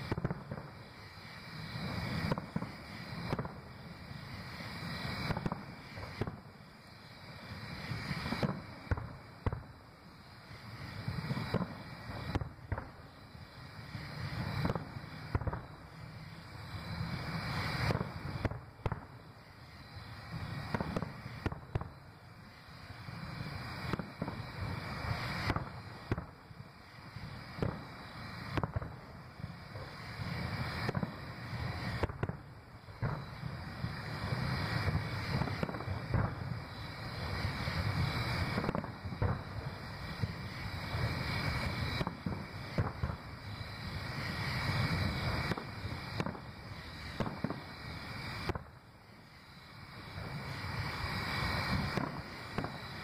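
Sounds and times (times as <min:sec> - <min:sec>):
continuous low rumble: 0:00.0 - 0:53.0
fireworks booming: 0:00.0 - 0:53.0.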